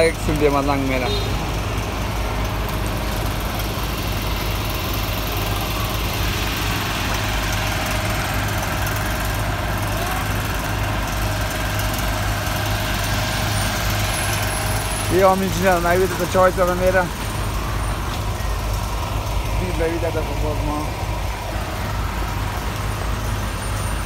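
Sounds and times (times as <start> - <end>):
rain on a wet street: 0.0 - 24.0
vehicle engine idling: 0.0 - 24.0.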